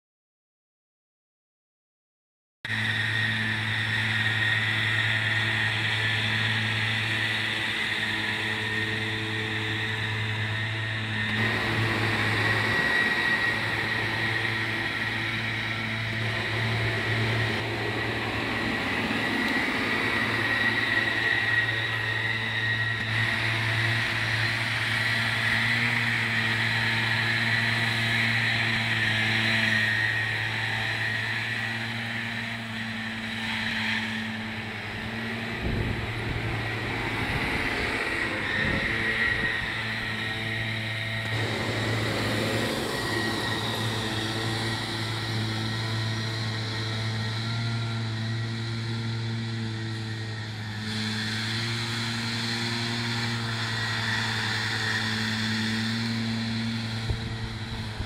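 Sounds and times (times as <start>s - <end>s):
constant high whine: 2.7s - 58.0s
tractor running under load: 2.7s - 58.0s.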